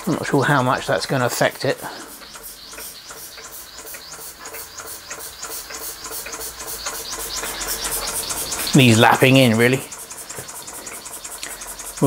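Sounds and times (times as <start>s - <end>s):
steam engine rhythmic hiss: 0.0s - 12.0s.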